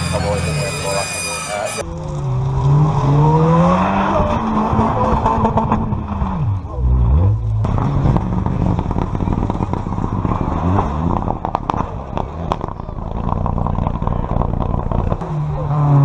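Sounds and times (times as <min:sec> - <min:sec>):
rally car engine running: 0:00.0 - 0:16.0.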